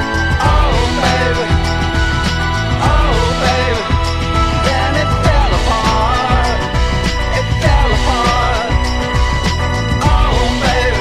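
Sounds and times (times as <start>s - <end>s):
song over low beat: 0.0s - 11.0s.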